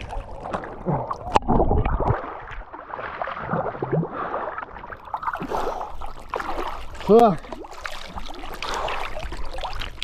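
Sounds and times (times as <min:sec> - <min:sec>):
river water gurgling around kayak: 0:00.0 - 0:10.0.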